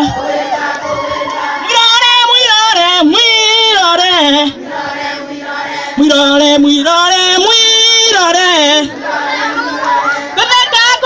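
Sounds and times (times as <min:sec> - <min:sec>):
group singing: 0:00.0 - 0:11.0
strong lead voice singing: 0:00.0 - 0:11.0.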